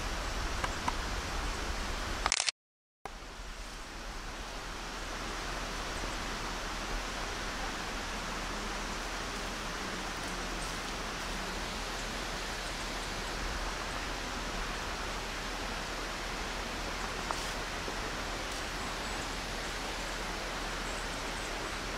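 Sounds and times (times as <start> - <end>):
distant waterfall rushing: 0.0 - 2.2, 3.1 - 21.9.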